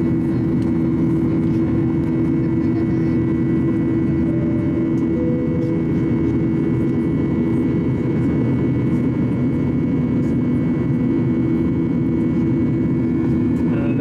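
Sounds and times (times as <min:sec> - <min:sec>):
jet engines heard from cabin: 0:00.0 - 0:14.0.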